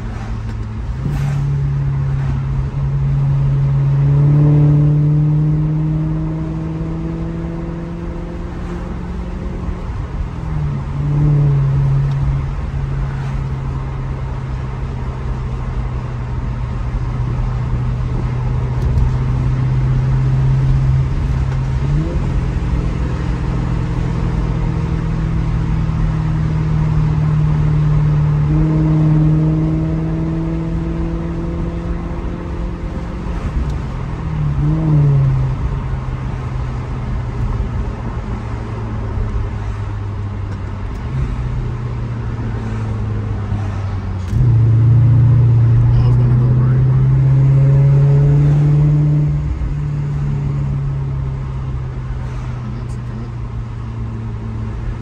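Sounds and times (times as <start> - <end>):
car engine and exhaust accelerating: 0.0 - 55.0.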